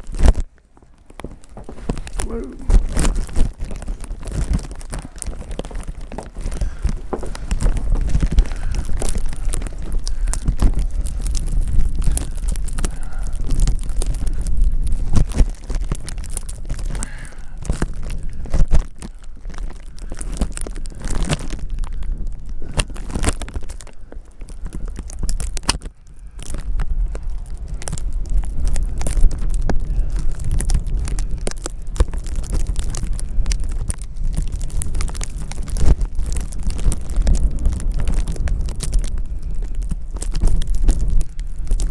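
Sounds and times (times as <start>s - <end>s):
crackling and rustling: 0.0s - 41.9s
wind buffeting microphone: 0.0s - 41.9s.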